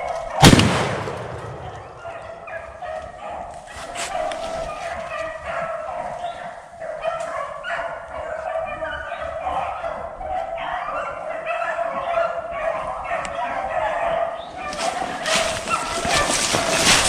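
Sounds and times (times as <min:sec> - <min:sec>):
pack of hounds baying: 0:01.3 - 0:17.0.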